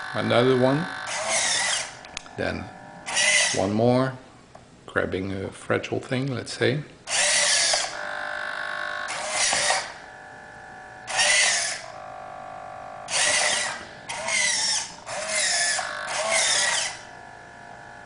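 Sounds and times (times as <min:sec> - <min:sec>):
servo motors whining: 0:00.0 - 0:03.7, 0:07.1 - 0:18.0.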